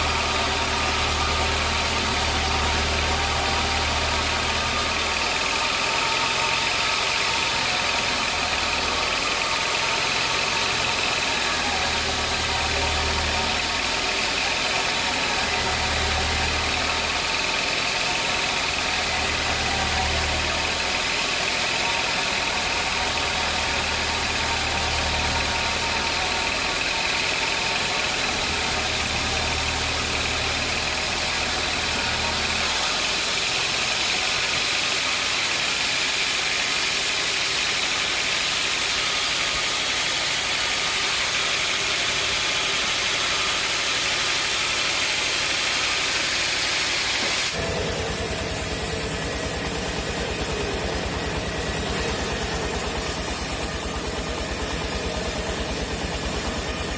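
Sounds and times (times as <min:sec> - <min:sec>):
sawmill machinery hiss: 0:00.0 - 0:56.9.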